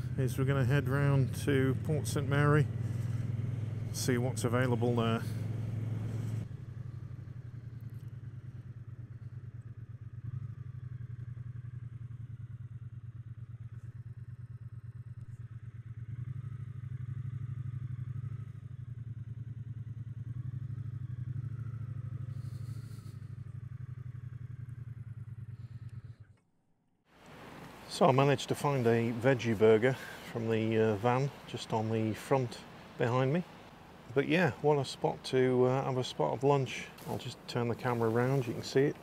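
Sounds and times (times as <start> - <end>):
motorcycle engine running: 0.0 - 26.4, 27.8 - 39.0.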